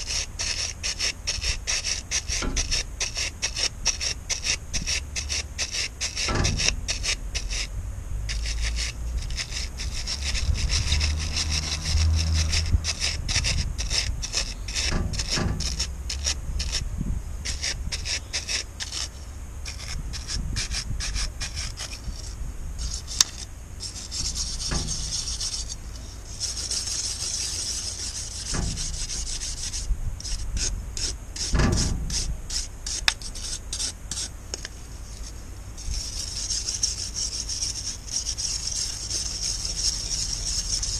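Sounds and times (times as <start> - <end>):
wire brush scrubbing metal: 0.0 - 7.7, 8.3 - 16.8, 17.4 - 40.9.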